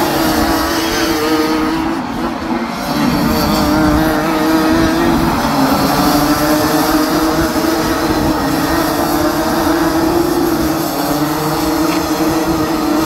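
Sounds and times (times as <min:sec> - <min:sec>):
racing kart engines buzzing: 0:00.0 - 0:13.0.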